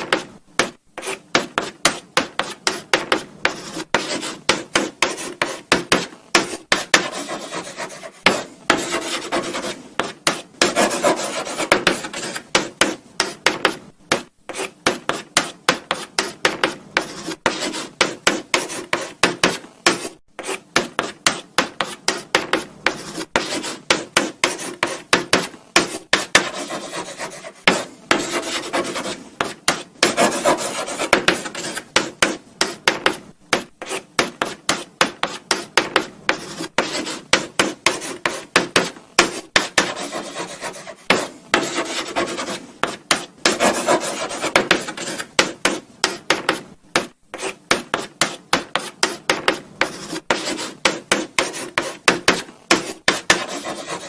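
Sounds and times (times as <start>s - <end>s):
chalk writing on blackboard: 0.0s - 54.0s.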